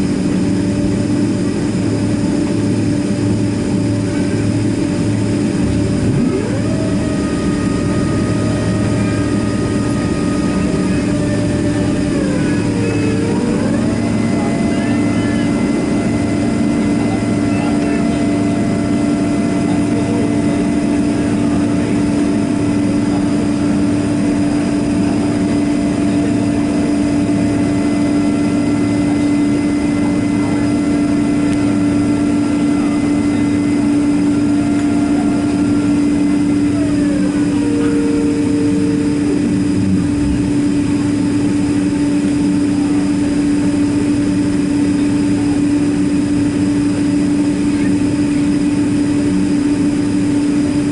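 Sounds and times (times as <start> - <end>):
high whining tones: 0.0 - 50.9
jet engines humming: 0.0 - 50.9.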